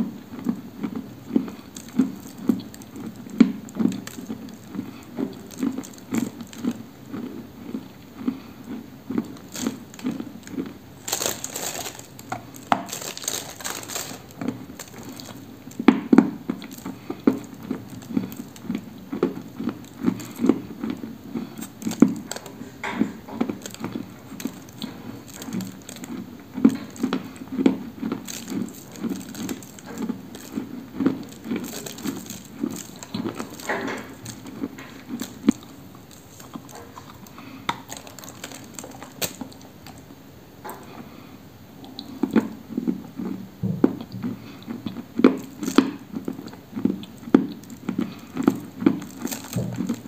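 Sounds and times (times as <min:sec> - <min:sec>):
crunchy chewing: 0:00.0 - 0:50.0.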